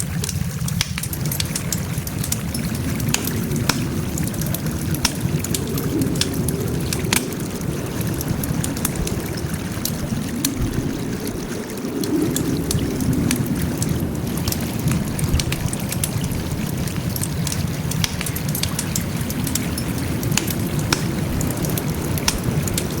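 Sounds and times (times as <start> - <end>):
fire crackling and popping: 0.0 - 23.0
rush of flames: 0.0 - 23.0.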